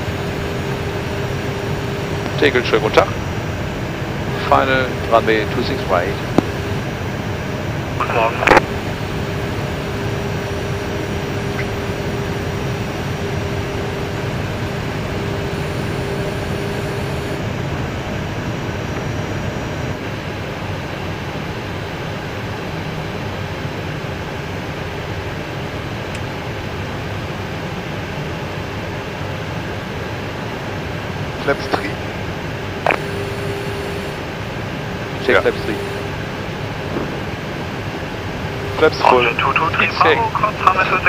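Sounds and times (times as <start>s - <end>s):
rushing air and engine noise: 0.0s - 41.0s
steady hum: 0.0s - 41.0s.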